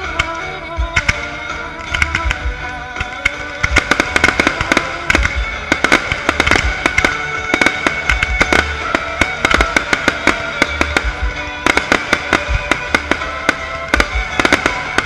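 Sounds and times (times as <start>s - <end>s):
fireworks banging and crackling: 0.0s - 15.0s
music playing: 0.0s - 15.0s.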